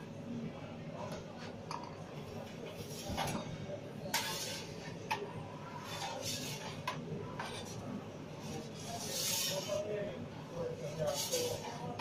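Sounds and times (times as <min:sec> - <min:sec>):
murmuring background voices: 0:00.2 - 0:12.0.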